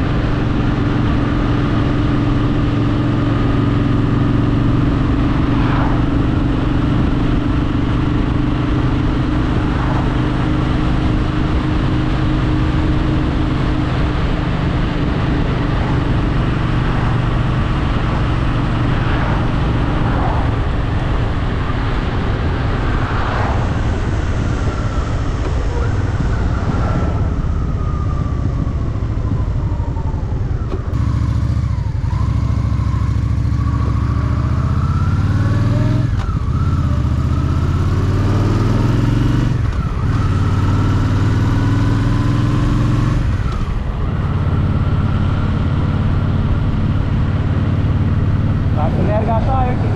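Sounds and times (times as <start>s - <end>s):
wind rush over microphone: 0.0s - 31.0s, 34.7s - 49.9s
motorcycle engine cruising: 0.0s - 49.9s.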